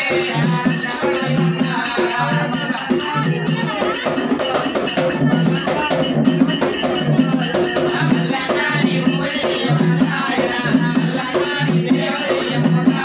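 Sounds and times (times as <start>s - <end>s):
hand cymbals jingling: 0.0s - 13.0s.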